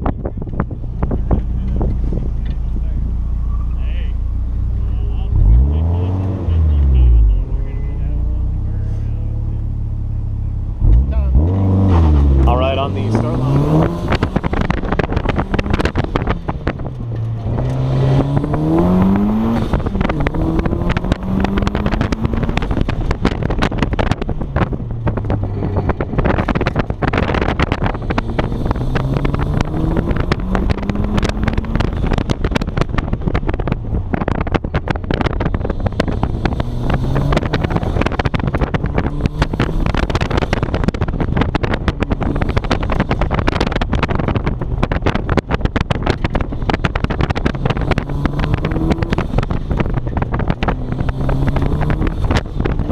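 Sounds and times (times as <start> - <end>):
wind buffeting microphone: 0.0 - 4.7, 11.1 - 52.9
car engine revving hard: 5.3 - 9.7, 10.8 - 52.9.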